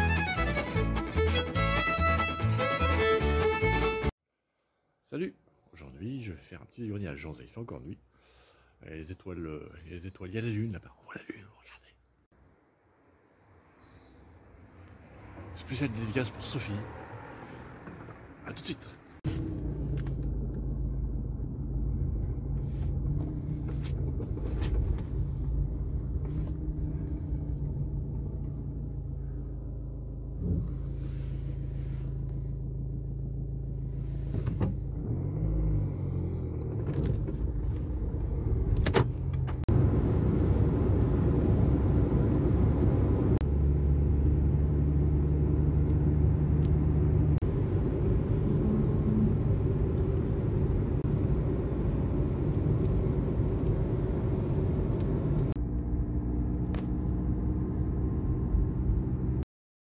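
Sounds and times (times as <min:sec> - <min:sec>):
car engine and road noise: 0:00.0 - 0:04.2, 0:12.2 - 0:59.5.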